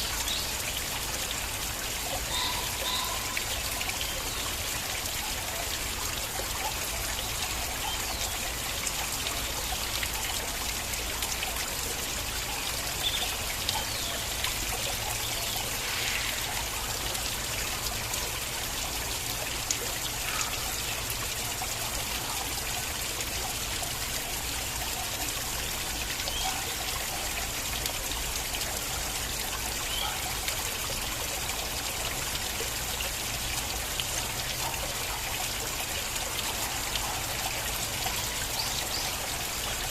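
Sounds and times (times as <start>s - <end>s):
stream trickling: 0.0s - 39.9s
water splashes and drips: 0.0s - 39.9s.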